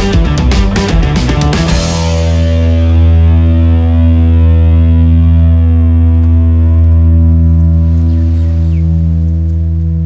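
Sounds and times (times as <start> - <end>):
distorted drone music: 0.0 - 10.0.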